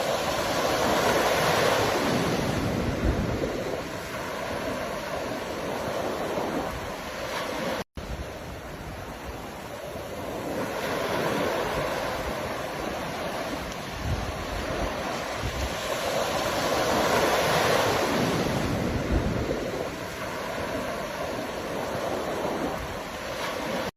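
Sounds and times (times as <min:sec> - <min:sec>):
ocean waves breaking: 0:00.0 - 0:23.9.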